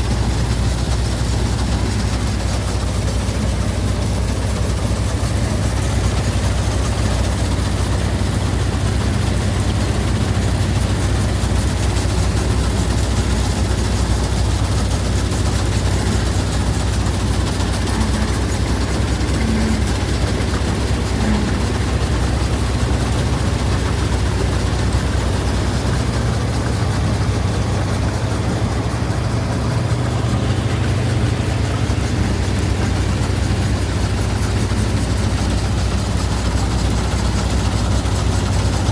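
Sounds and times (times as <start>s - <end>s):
heavy diesel engine running: 0.0s - 38.9s
rushing noise of machine working: 0.0s - 38.9s.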